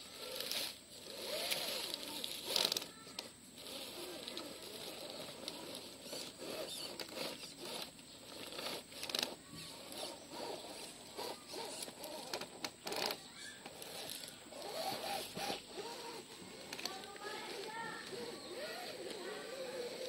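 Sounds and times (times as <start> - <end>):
toy car scrabbling over rock: 0.0 - 20.0.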